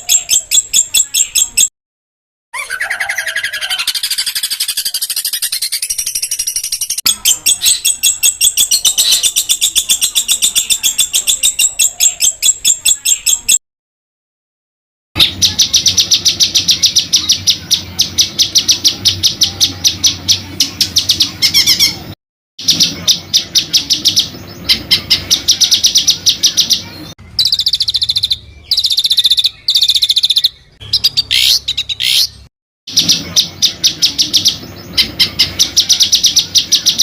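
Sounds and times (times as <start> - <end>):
songbird rapid rolling song: 0.0 - 1.7, 2.6 - 13.6, 15.2 - 37.0.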